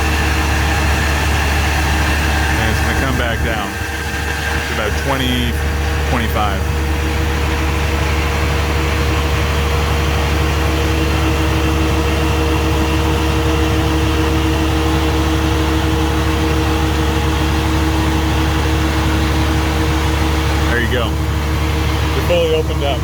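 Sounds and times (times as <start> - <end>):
fuel pump humming: 0.0 - 23.0
truck engine running: 0.0 - 23.0.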